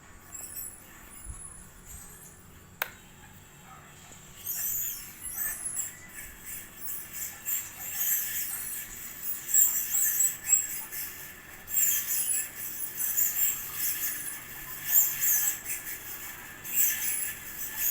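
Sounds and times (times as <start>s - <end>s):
ceiling fan bearing squeaking: 0.0s - 17.9s
faint fan motor whine: 0.0s - 17.9s.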